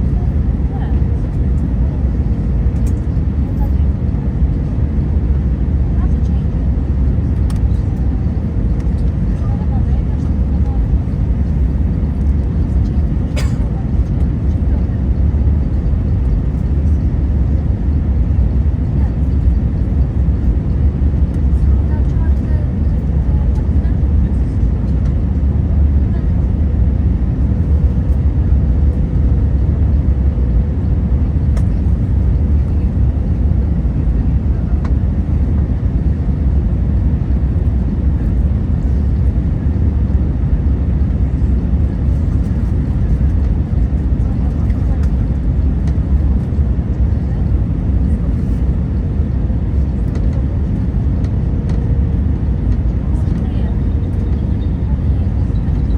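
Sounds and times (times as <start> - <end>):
airplane cabin rumble: 0.0 - 55.9.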